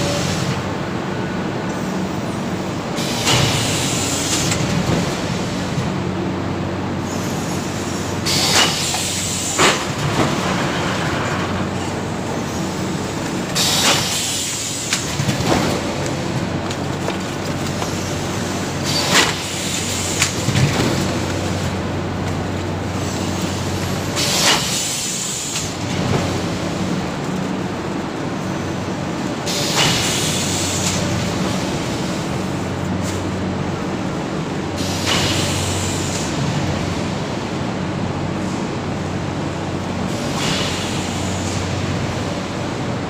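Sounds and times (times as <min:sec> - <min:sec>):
foam forming machine humming: 0:00.0 - 0:43.0.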